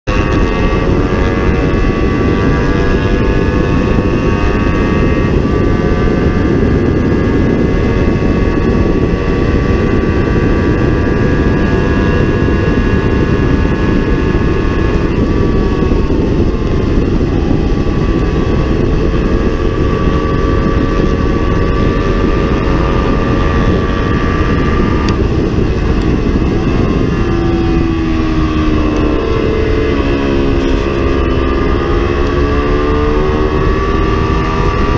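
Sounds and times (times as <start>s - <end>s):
motorcycle engine at high revs: 0.0s - 34.9s
wind buffeting on microphone: 0.1s - 34.9s.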